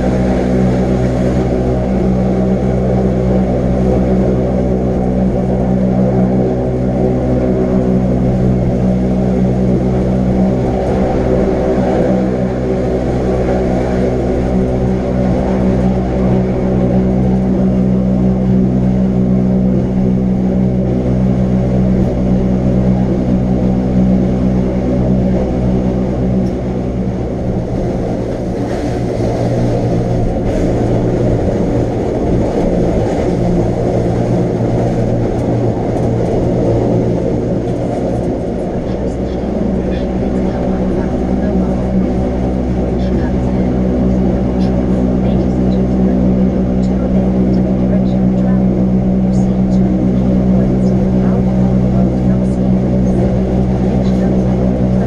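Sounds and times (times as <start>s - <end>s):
electric train motors droning: 0.0s - 55.0s.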